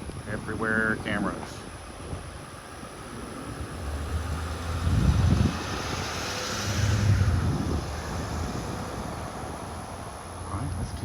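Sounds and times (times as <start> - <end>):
broad rushing noise: 0.0 - 11.0
wind buffeting microphone: 0.0 - 11.0.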